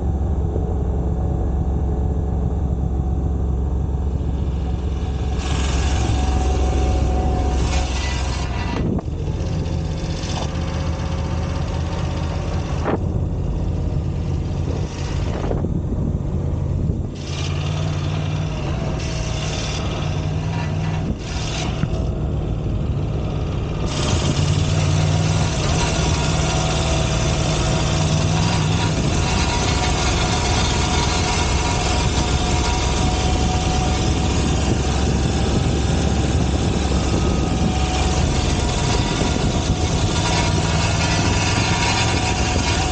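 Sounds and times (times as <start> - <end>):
metallic exhaust cover buzz: 0.0 - 42.9.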